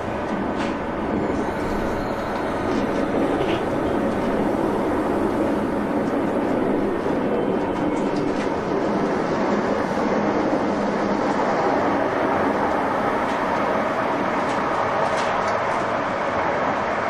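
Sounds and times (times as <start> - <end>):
train wheels rolling rumble: 0.0 - 17.0.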